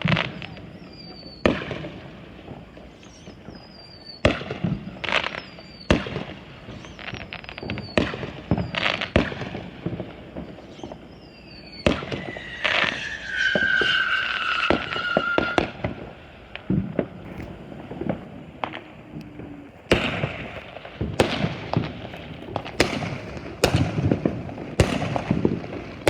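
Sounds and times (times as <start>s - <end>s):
firework bangs: 0.0s - 26.0s
firework crackling: 0.0s - 26.0s
whistling firework shriek: 0.0s - 26.0s.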